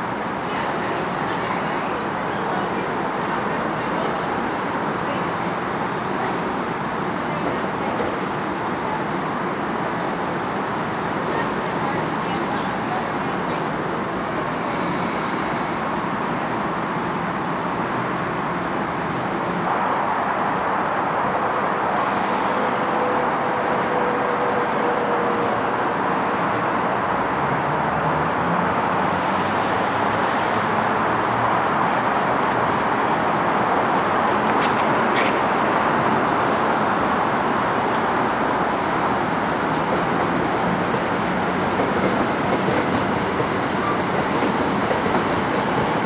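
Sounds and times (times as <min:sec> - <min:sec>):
passenger train running: 0:00.0 - 0:46.0.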